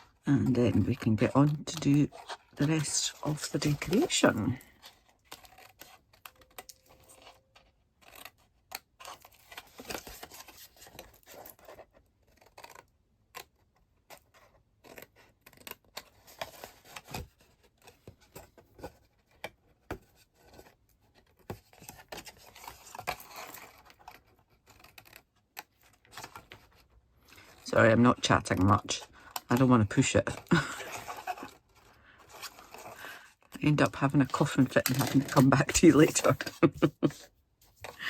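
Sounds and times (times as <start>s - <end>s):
card scraping and rustling: 0.0s - 38.0s.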